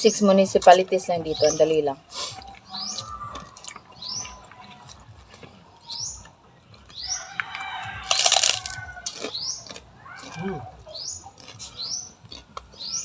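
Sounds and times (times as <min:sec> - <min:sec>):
small bird chirping: 0:00.0 - 0:05.2, 0:05.8 - 0:07.5, 0:08.6 - 0:13.0.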